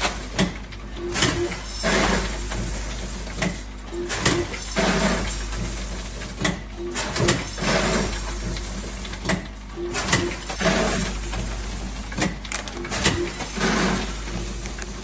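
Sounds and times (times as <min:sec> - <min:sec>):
bagging machine clacks: 0:00.0 - 0:15.0
low machine hum: 0:00.0 - 0:15.0.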